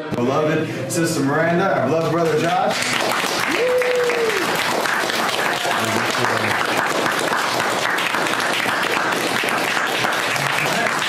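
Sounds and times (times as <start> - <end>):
congregation applauding: 2.0 - 11.0.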